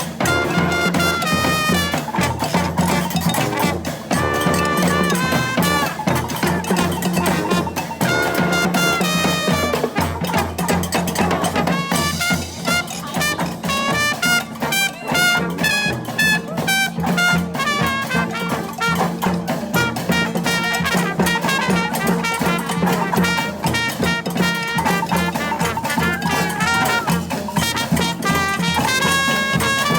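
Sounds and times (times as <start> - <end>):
brass horns playing: 0.0 - 29.9
steady drum beat: 0.0 - 29.9.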